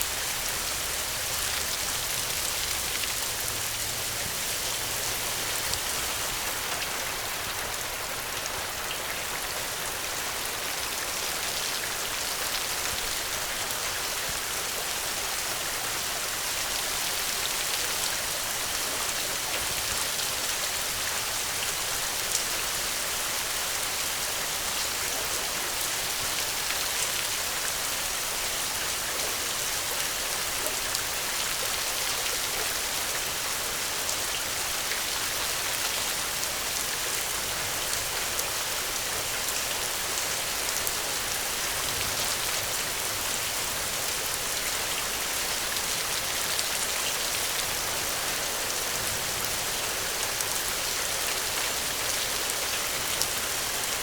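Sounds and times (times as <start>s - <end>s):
raindrops pattering on a surface: 0.0s - 54.0s
steady rain hiss: 0.0s - 54.0s.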